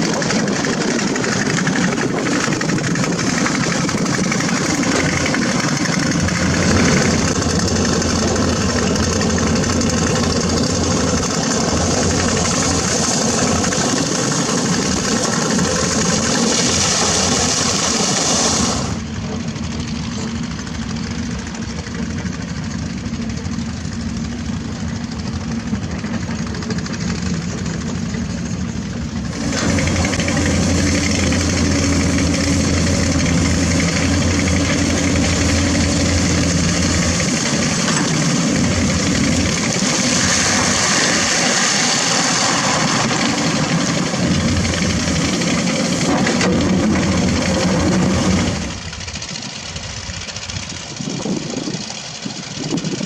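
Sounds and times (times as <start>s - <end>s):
excavator diesel engines running: 0.0s - 53.0s.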